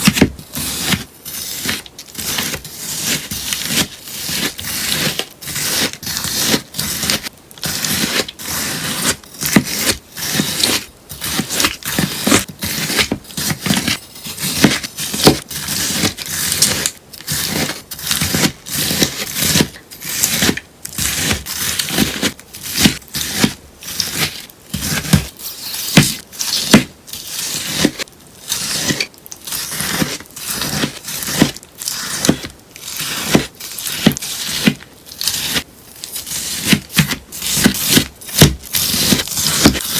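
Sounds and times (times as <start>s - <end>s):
sponge being cut crunching: 0.0s - 39.9s.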